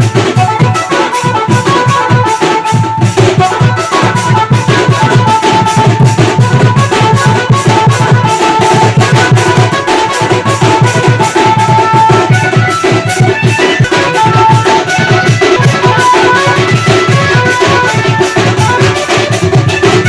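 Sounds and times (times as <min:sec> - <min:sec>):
fast steady drumming: 0:00.0 - 0:20.0.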